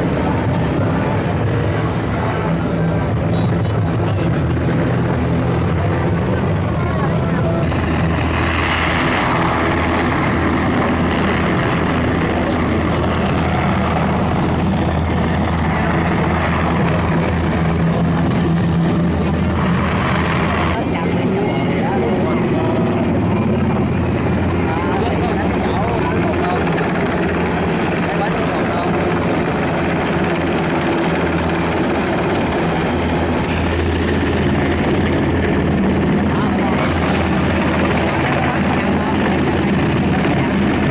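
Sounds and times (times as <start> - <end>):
helicopter rotor and engine: 0.0 - 40.9.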